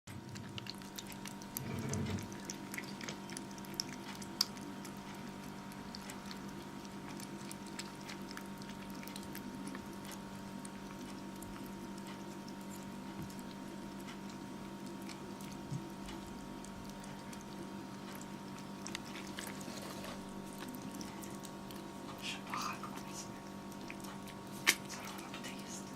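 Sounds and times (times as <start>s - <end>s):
kittens chewing clicks: 0.1s - 25.5s
electrical hum: 0.1s - 25.9s.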